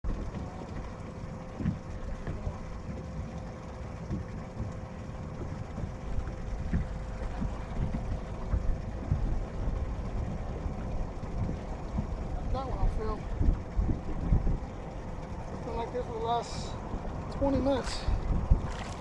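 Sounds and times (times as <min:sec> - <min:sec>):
soft low thumps: 0:00.0 - 0:15.8, 0:16.7 - 0:17.4, 0:18.1 - 0:19.0
wind rumbling on microphone: 0:00.0 - 0:19.0.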